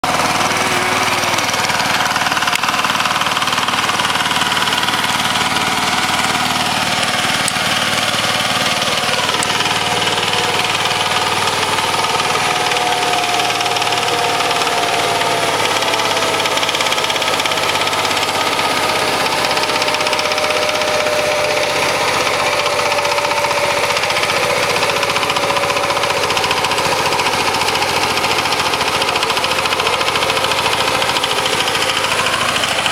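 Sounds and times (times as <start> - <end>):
power tiller diesel engine running: 0.0 - 32.9.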